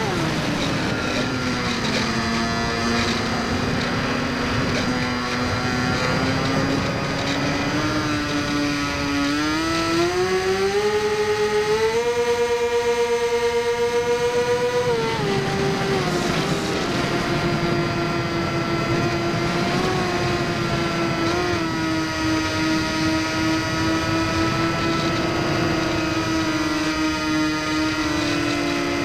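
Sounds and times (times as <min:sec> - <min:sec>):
rc plane motor and propeller whining: 0:00.0 - 0:29.0.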